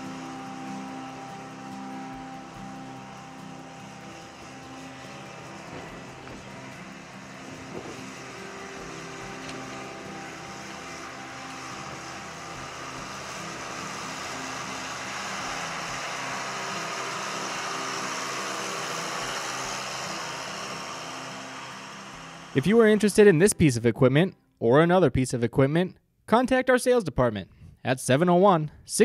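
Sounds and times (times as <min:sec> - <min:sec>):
tractor diesel engine running: 0:00.0 - 0:23.6.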